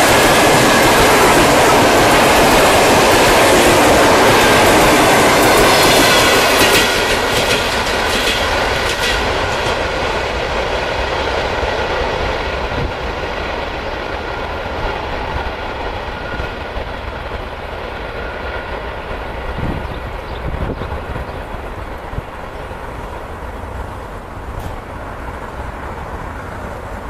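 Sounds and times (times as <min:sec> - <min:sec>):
train rushing rumble: 0:00.0 - 0:27.0
train wheels clicking over track: 0:00.0 - 0:27.0.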